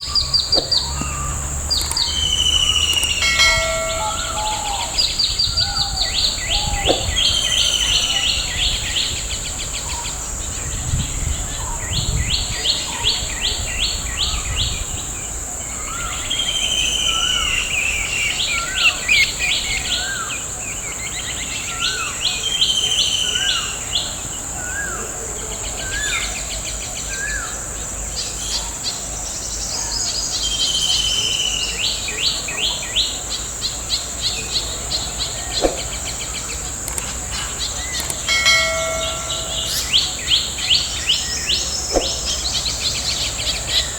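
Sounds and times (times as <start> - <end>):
birds singing and calling: 0.0 - 43.9.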